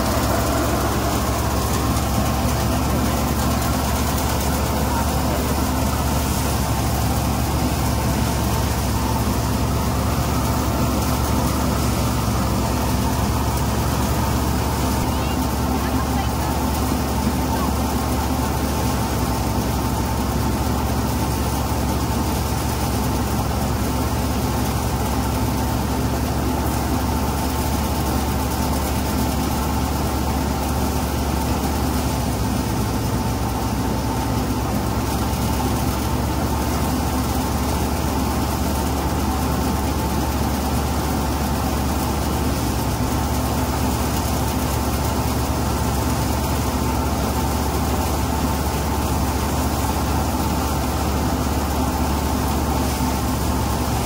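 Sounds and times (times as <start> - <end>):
thresher machine humming: 0.0 - 54.0.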